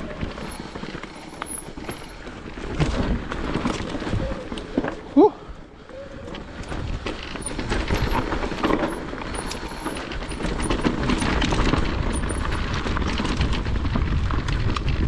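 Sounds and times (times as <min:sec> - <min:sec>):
bike rattles and clicks: 0:00.0 - 0:15.0
tyre and wind rush: 0:00.0 - 0:15.0.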